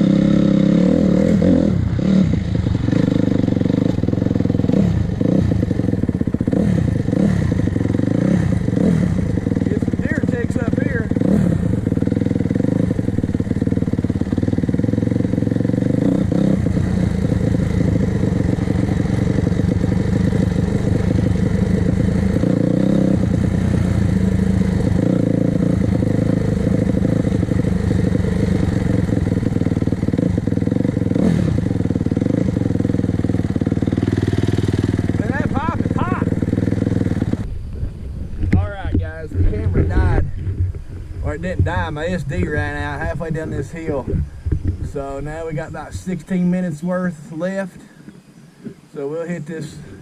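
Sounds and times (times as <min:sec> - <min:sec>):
motorcycle engine running: 0:00.0 - 0:48.2.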